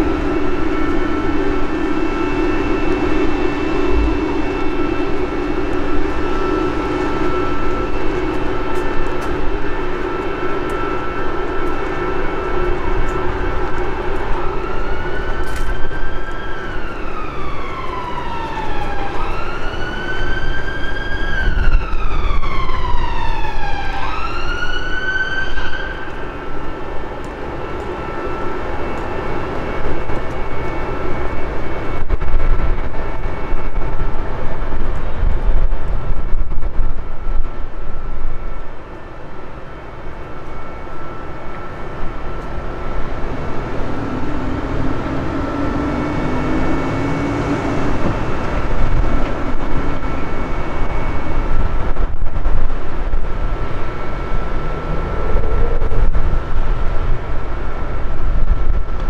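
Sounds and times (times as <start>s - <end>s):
emergency vehicle siren wailing: 0.0s - 59.0s
street traffic noise: 0.0s - 59.0s.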